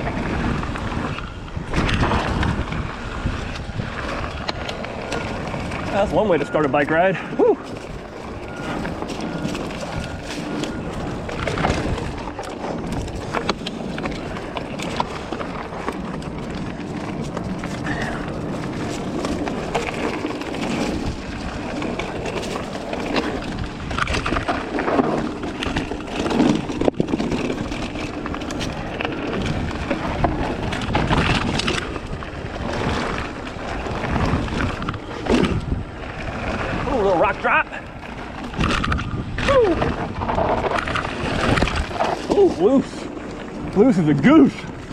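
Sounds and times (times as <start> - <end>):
bike rattling over bumps: 0.0 - 44.9
bike tyres crunching over dirt: 0.0 - 44.9
wind on microphone: 0.0 - 44.9.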